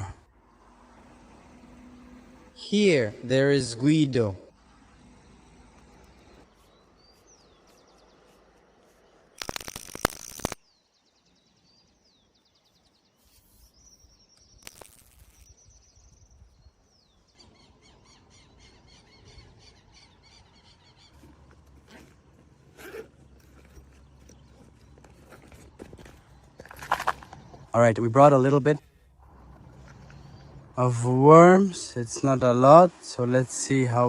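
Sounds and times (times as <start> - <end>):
birds chirping: 1.5 - 9.6, 10.6 - 34.0.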